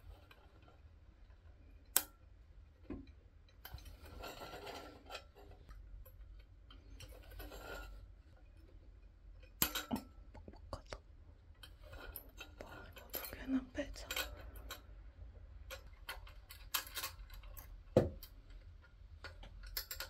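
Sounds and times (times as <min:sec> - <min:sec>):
rustling of objects: 0:02.6 - 0:20.0.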